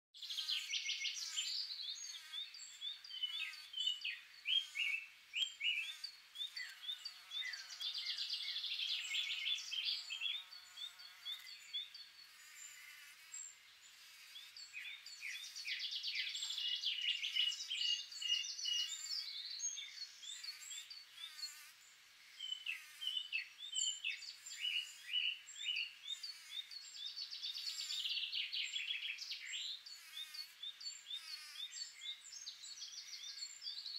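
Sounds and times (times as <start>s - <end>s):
small birds singing: 0.1s - 33.9s
insect buzzing: 0.2s - 33.9s.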